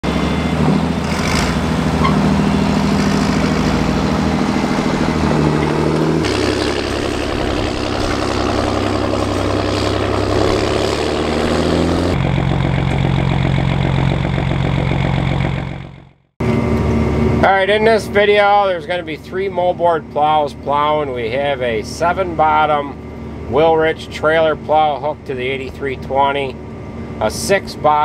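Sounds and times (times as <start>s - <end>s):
diesel tractor engines running: 0.0s - 28.0s.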